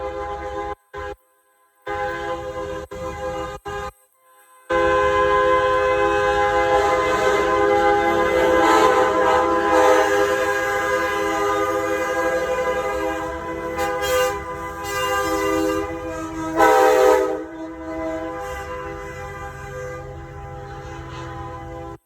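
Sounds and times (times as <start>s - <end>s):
truck air horns blowing chords: 0.0s - 1.2s, 1.8s - 4.0s, 4.7s - 22.0s.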